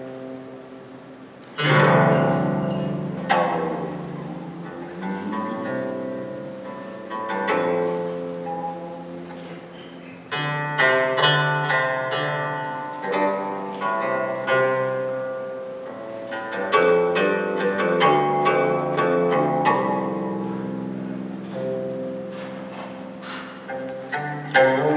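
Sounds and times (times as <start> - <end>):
plucked zither music: 0.0 - 24.9.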